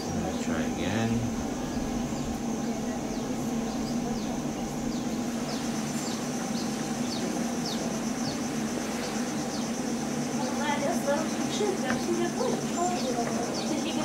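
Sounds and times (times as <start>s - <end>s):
high insect buzz: 0.0s - 14.0s
steady low hum: 0.0s - 14.0s.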